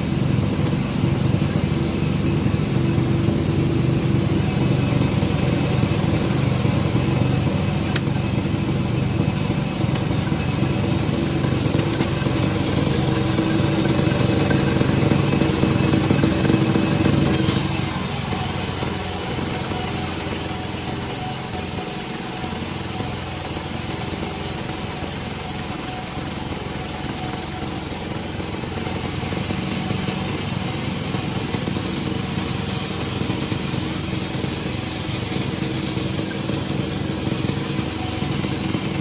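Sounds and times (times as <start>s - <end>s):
sawmill machinery drone: 0.0s - 39.0s.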